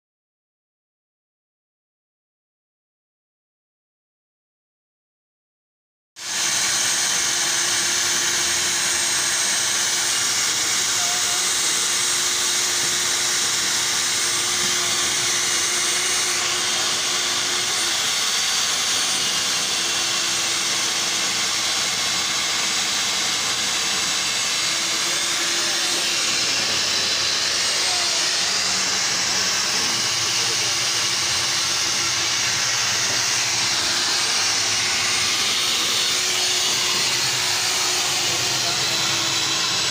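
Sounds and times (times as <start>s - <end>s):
core drill cutting concrete: 6.2s - 39.9s.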